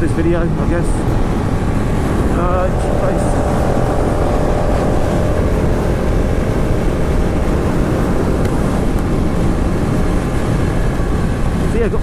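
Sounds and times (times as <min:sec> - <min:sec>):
loud wind roar on microphone: 0:00.0 - 0:12.0
motorcycle running: 0:00.0 - 0:12.0.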